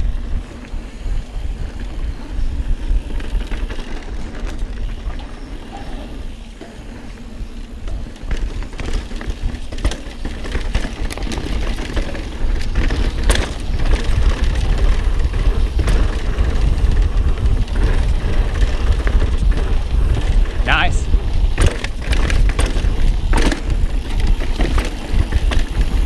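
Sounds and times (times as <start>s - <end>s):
bike tyre noise: 0.0s - 26.0s
wind rumble on microphone: 0.0s - 26.0s
bike knocks and rattles: 2.5s - 26.0s.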